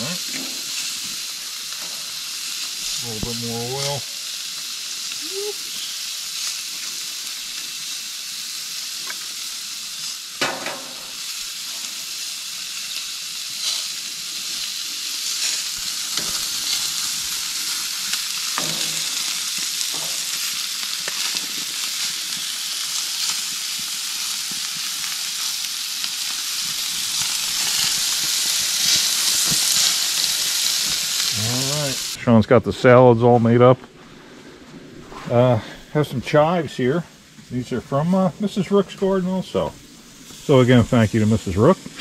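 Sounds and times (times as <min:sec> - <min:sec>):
steaks sizzling on a grill: 0:00.0 - 0:32.2, 0:35.3 - 0:42.0.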